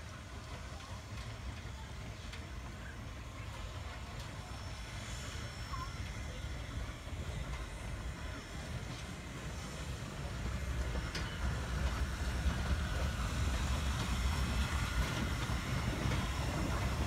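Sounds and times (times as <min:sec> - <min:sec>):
steam locomotive rumbling past: 0:00.0 - 0:17.0.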